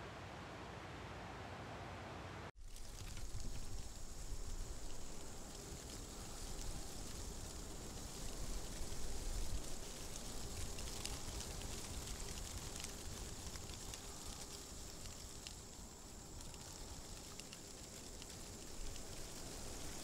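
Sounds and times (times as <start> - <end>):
steady high hiss: 0.0 - 20.0
faint crackles: 2.5 - 20.0.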